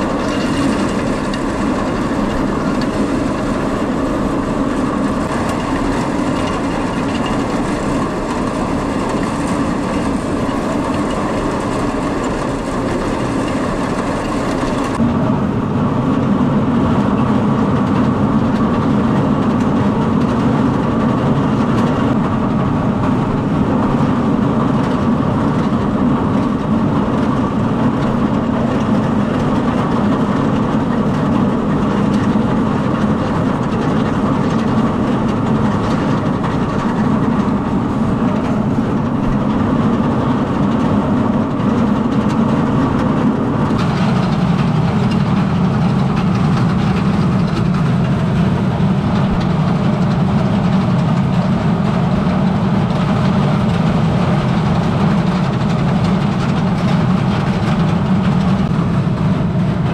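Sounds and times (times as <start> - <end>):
conveyor mechanical clatter: 0.0 - 59.9.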